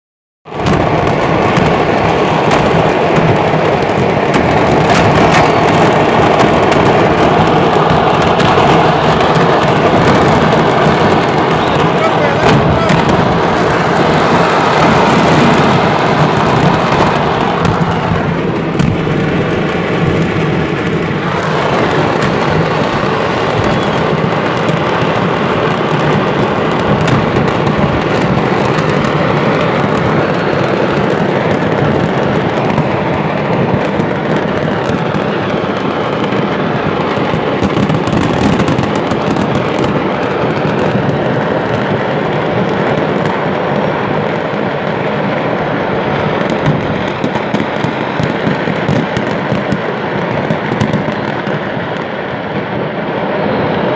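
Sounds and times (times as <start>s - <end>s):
fireworks crackling and popping: 0.5s - 53.9s
sharp firework bangs: 0.5s - 53.9s
steady rumble: 0.5s - 53.9s.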